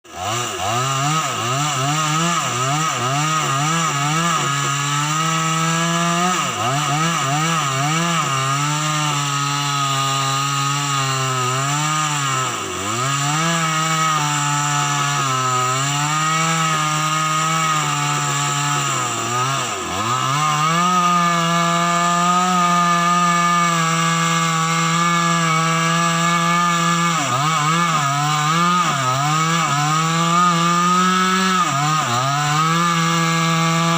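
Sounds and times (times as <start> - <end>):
chainsaw cutting tree: 0.0 - 33.9.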